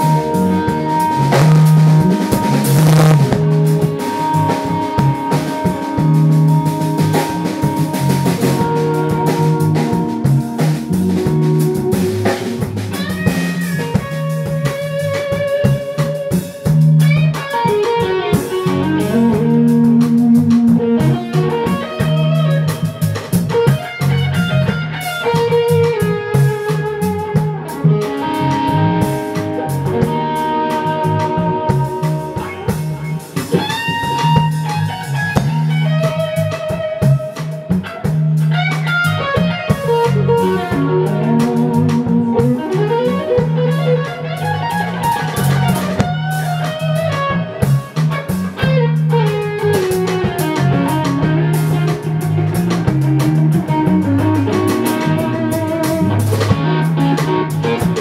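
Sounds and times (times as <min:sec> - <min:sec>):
bass guitar: 0:00.0 - 0:58.0
drum kit: 0:00.0 - 0:58.0
electric guitar solo: 0:00.0 - 0:58.0.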